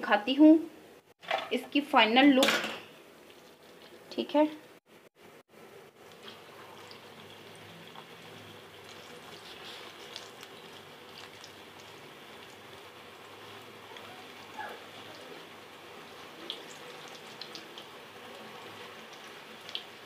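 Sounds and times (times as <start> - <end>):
food deep-frying with sizzling hiss: 2.0 - 20.0.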